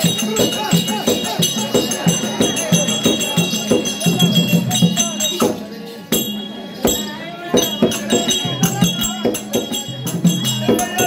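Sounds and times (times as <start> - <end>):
drum strikes: 0.0 - 11.0
jingling bells: 0.0 - 11.0.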